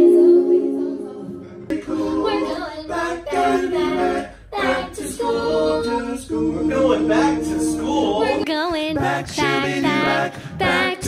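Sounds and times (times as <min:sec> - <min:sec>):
vocal group singing chords: 0:00.0 - 0:11.0.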